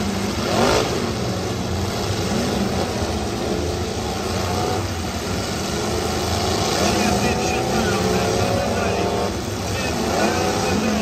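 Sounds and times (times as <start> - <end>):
car engines running: 0.0 - 11.0
engine revving: 0.0 - 11.0.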